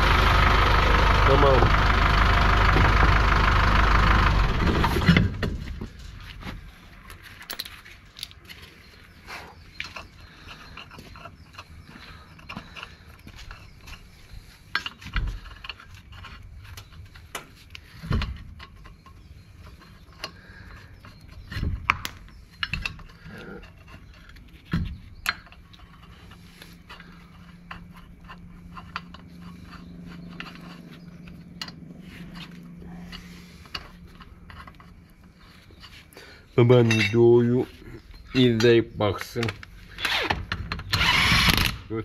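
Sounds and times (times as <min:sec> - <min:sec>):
low steady hum: 0:00.0 - 0:42.0
hand tools clinking and scraping: 0:05.6 - 0:40.9.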